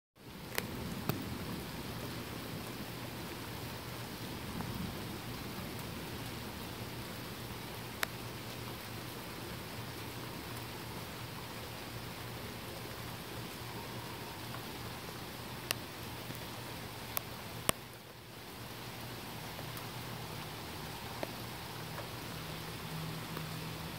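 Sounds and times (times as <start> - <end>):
sharp ticks of rain: 0.2 - 23.9
steady rain falling: 0.2 - 23.9.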